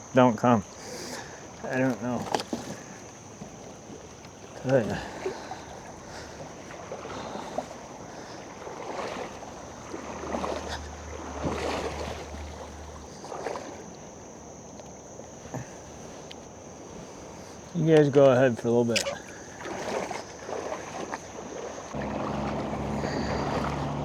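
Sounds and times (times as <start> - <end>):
water splashing around kayak: 0.0 - 24.0.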